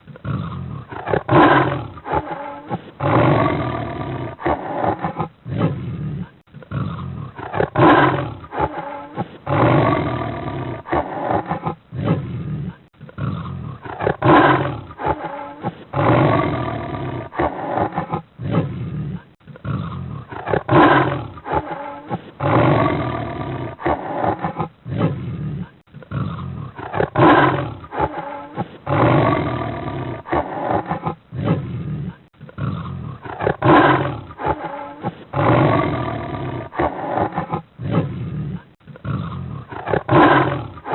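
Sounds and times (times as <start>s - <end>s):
big cat growling and roaring: 0.0s - 40.9s.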